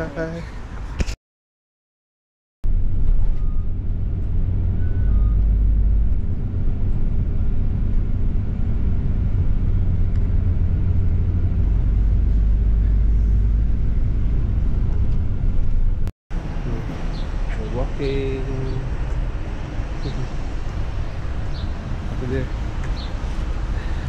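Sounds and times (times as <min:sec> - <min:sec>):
bus engine and road noise: 0:00.0 - 0:01.2, 0:02.7 - 0:24.0.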